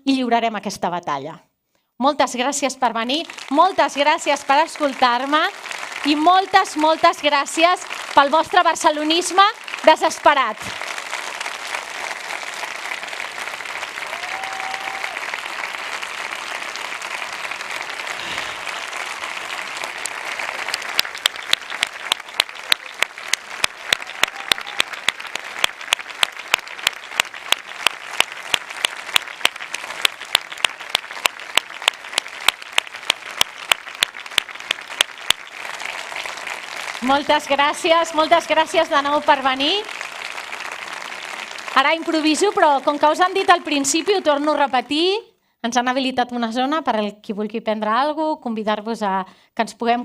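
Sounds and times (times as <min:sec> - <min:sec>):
loud evenly timed claps: 0:03.0 - 0:45.0
audience applauding: 0:03.0 - 0:45.1.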